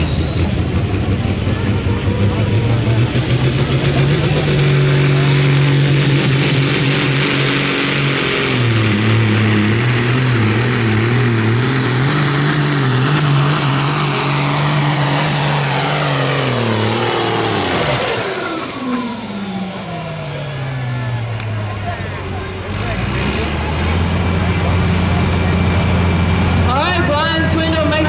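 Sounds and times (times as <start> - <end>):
vehicle engine at high revs: 0.0 - 28.0.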